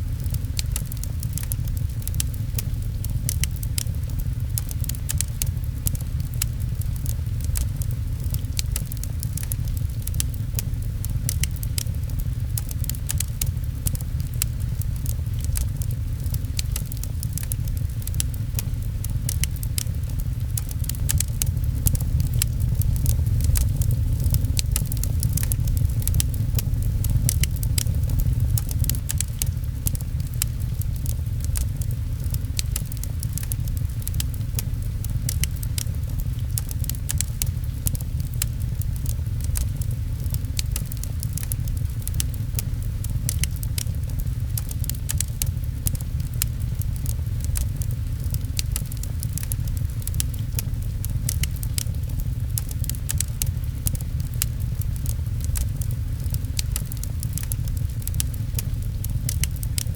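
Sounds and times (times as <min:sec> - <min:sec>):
fireplace crackling and popping: 0:00.0 - 0:59.9
rain pattering on a window: 0:00.0 - 0:59.9
steady low rumble: 0:00.0 - 0:59.9.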